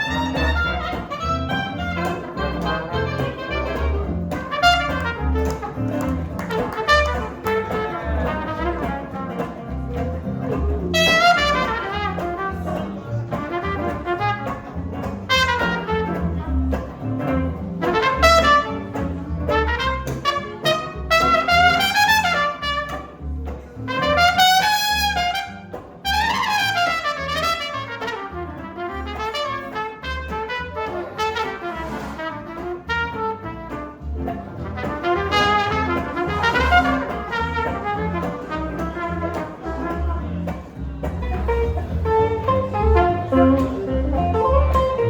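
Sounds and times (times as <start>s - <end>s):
trumpet melody: 0.0s - 9.6s, 10.9s - 16.7s, 17.8s - 23.2s, 23.9s - 40.5s, 41.5s - 45.0s
bass line: 0.0s - 45.0s
live jazz band: 0.0s - 45.0s.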